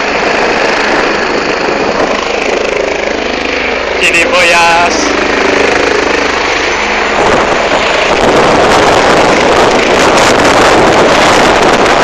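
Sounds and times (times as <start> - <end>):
helicopter rotor and turbine: 0.0 - 12.0
rotor downwash buffeting microphone: 0.0 - 12.0.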